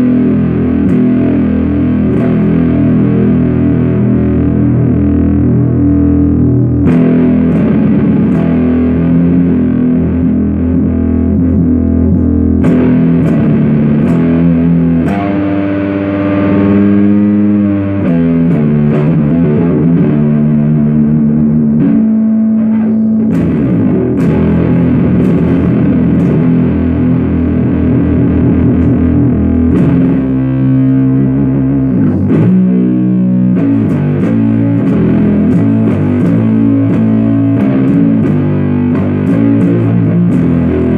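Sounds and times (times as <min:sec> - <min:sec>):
fuzzed electric guitar riff: 0:00.0 - 0:40.9.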